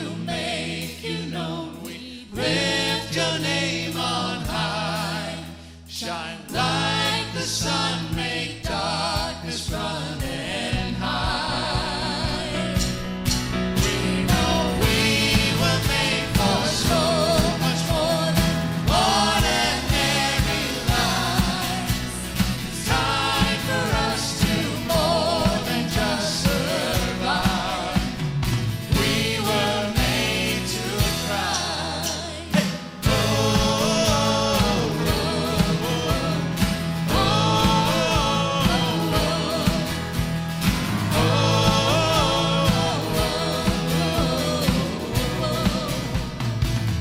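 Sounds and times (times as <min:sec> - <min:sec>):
people singing: 0:00.0 - 0:46.9
band playing worship song: 0:00.0 - 0:47.0.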